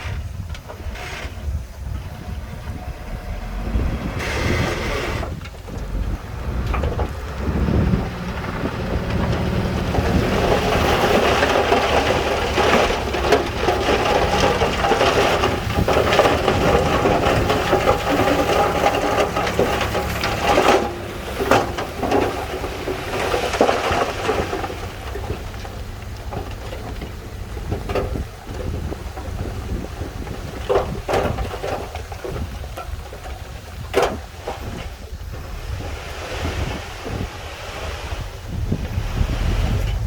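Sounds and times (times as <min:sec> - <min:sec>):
diesel engine running: 0:00.0 - 0:40.0
stones sliding and tumbling: 0:00.4 - 0:37.3.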